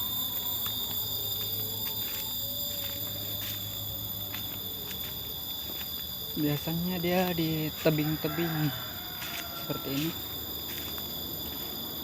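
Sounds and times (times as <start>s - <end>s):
insects calling: 0.0s - 12.0s.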